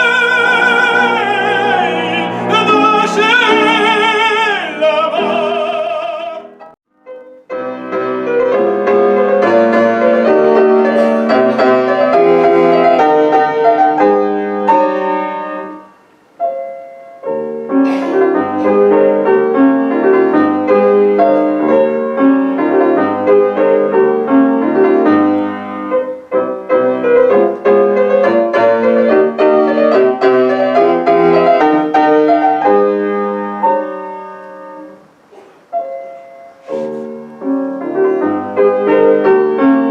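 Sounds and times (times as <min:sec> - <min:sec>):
classical piano piece: 0:00.0 - 0:39.9.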